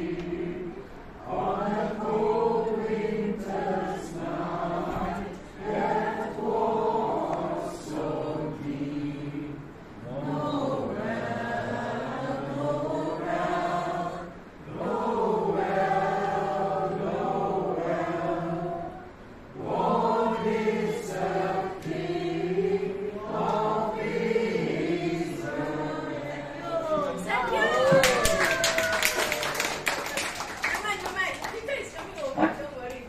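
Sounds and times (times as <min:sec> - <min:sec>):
group of voices singing: 0:00.0 - 0:28.3.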